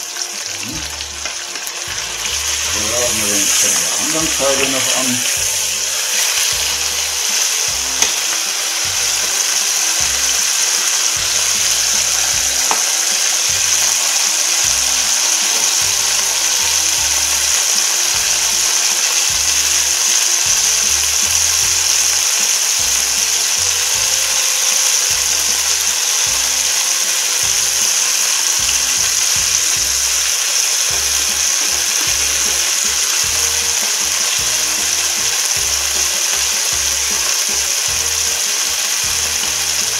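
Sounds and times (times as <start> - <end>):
meat sizzling in a frying pan: 0.0 - 39.9.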